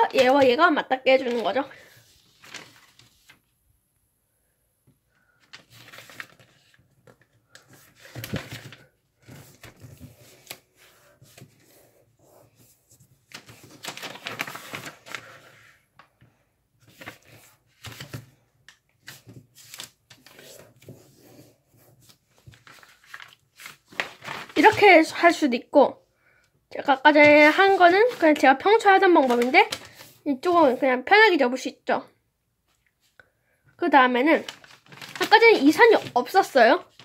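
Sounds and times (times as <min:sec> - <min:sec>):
paper rustling and crinkling: 0:00.0 - 0:03.5, 0:05.2 - 0:16.2, 0:16.8 - 0:25.3, 0:26.8 - 0:30.9, 0:34.2 - 0:37.0.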